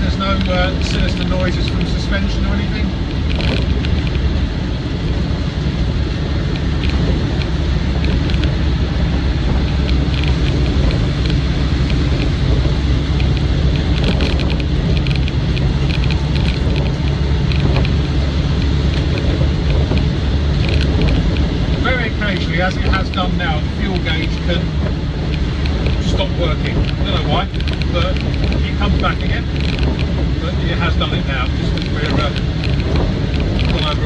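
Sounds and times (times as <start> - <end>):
diesel engine droning: 0.0 - 34.0
doors and windows rattling: 0.0 - 34.0
tyre noise: 0.0 - 34.0.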